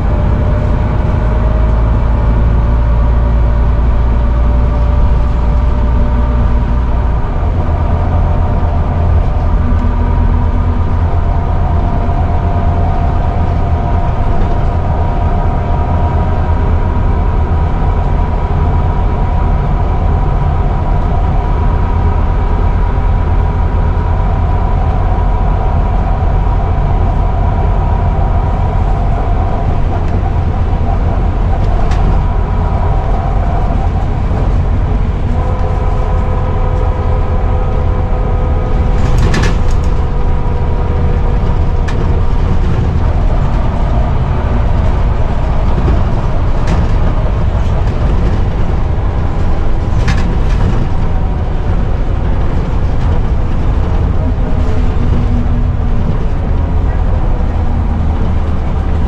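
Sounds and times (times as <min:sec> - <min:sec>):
bus engine rumbling: 0:00.0 - 0:59.0
differential whine: 0:00.0 - 0:59.0
lower whine: 0:00.0 - 0:59.0.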